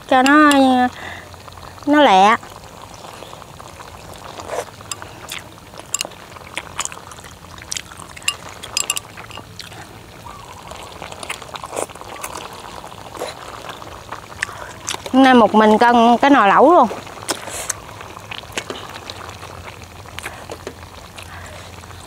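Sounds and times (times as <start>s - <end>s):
liquid bubbling and popping: 0.0s - 22.0s.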